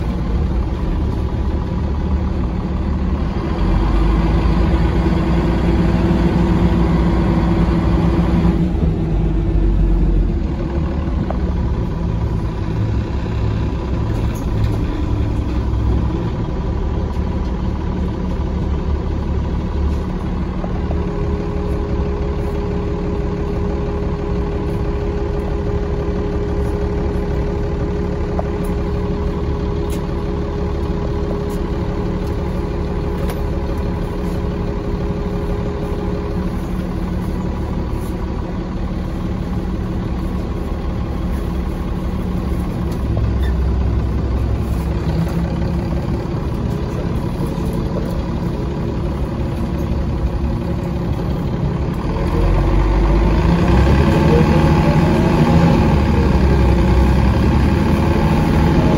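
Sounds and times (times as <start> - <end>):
bus engine idling and revving: 0.0 - 58.9.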